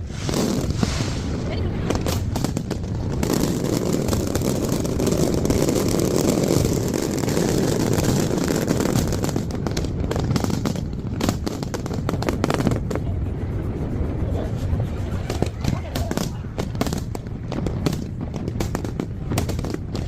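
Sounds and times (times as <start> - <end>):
fireworks cracks and bangs: 0.0 - 13.1, 15.2 - 20.0
continuous low rumble: 0.0 - 20.0.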